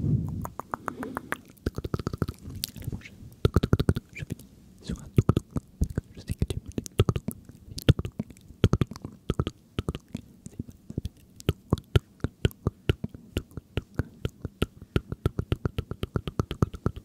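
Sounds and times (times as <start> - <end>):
wet tongue and lip clicks: 0.2 - 17.0.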